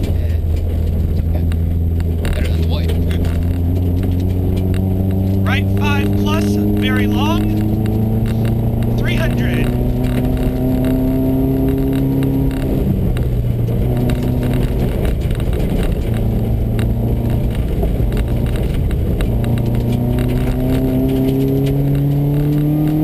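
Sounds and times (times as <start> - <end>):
car engine running: 0.0 - 23.0
road and tyre noise: 0.0 - 23.0.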